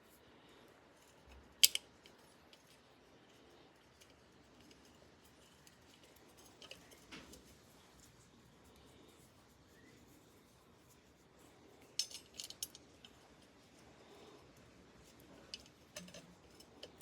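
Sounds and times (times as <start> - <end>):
soft clicks and rustles: 0.0 - 17.0.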